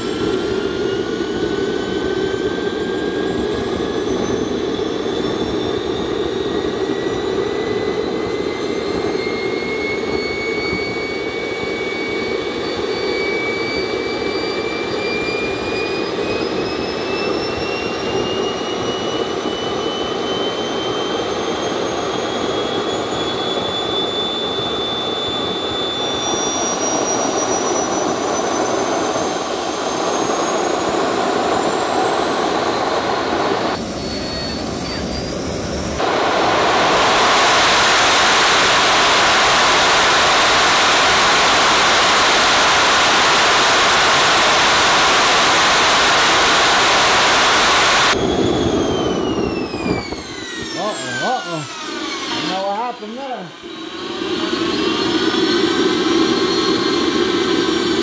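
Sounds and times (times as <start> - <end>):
jet engine roar with turbine whine: 0.0 - 58.0.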